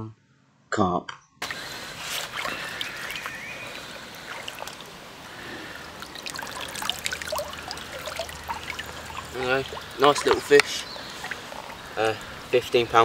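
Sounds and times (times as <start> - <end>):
water drips and sloshes: 1.4 - 13.0
water trickling and splashing: 1.4 - 13.0.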